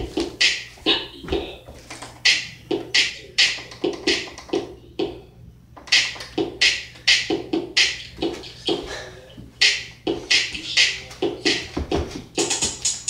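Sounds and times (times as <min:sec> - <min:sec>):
hip-hop beat: 0:00.0 - 0:13.0.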